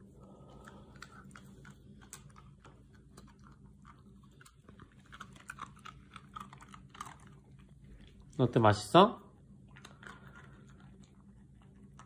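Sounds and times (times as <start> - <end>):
dog crunching biscuit: 0.4 - 8.8, 9.4 - 12.0.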